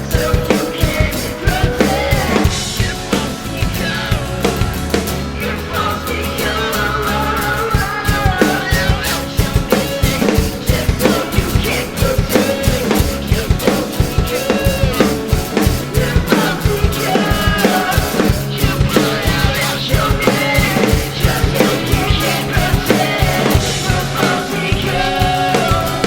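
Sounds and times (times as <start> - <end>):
background music with drum beat: 0.0 - 26.0.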